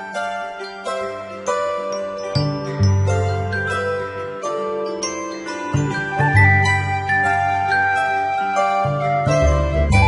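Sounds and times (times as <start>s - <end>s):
background music with chiming notes: 0.0s - 10.0s.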